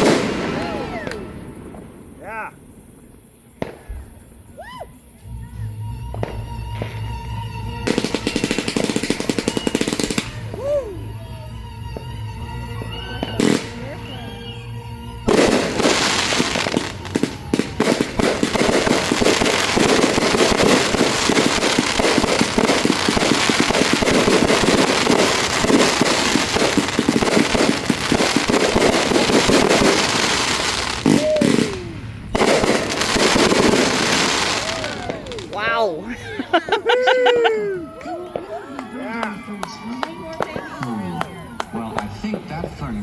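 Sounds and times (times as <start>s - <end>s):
fireworks crackling and popping: 0.0s - 43.0s.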